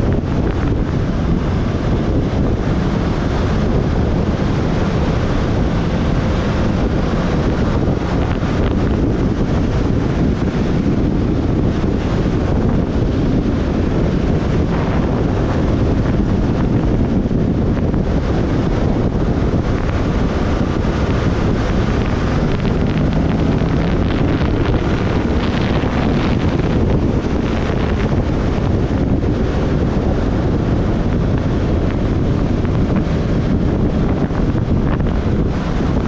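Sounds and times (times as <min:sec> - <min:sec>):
heavy wind noise on microphone: 0:00.0 - 0:36.0
motorcycle engine: 0:00.0 - 0:36.0.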